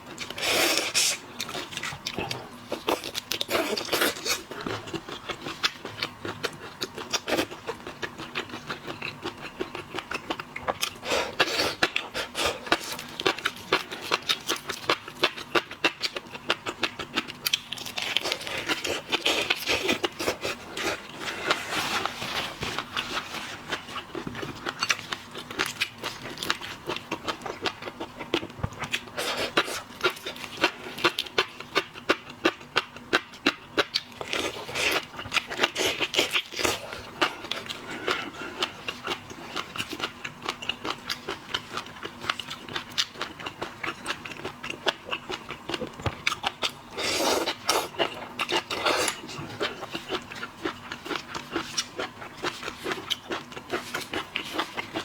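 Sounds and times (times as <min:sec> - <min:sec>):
crunching and wet chewing of shellfish: 0:00.0 - 0:55.0.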